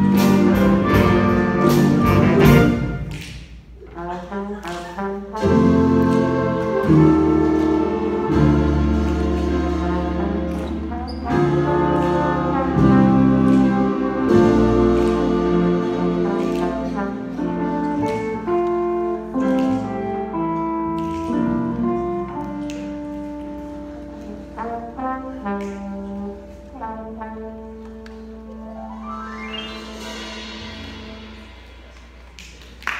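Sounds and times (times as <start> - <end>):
jazz band playing: 0.0 - 32.9.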